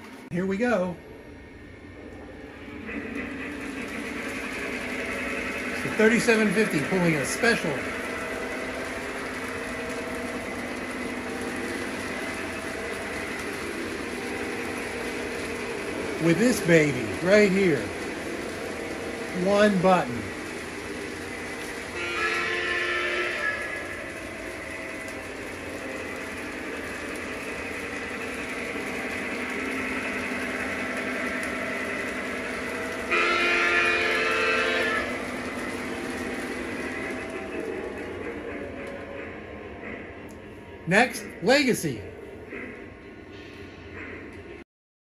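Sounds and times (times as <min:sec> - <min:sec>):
model train running on track: 0:00.0 - 0:44.6.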